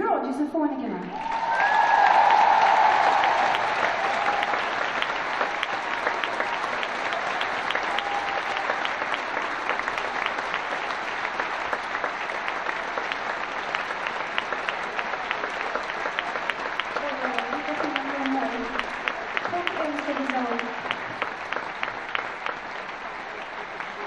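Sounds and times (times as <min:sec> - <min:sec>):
audience applauding: 0:01.1 - 0:24.0.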